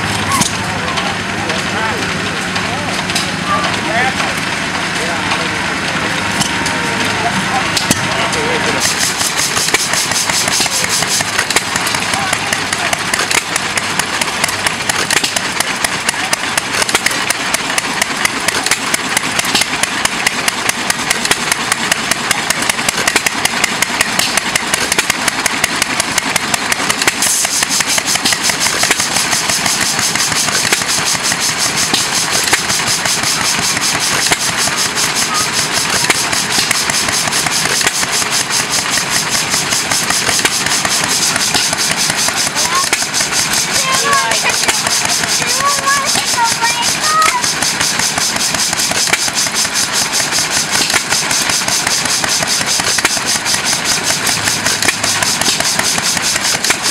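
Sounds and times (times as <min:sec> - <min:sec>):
hit-and-miss engine running: 0:00.0 - 0:56.9.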